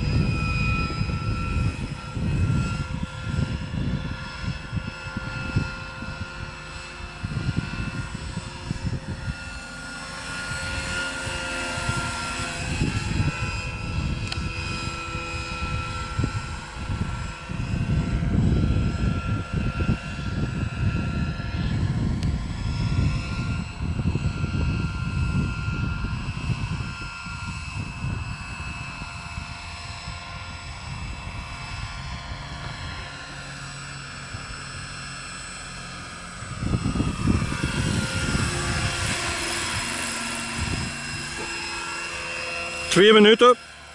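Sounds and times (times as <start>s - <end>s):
gusty low rumble: 0.0s - 43.0s
model helicopter high whine: 0.0s - 43.9s.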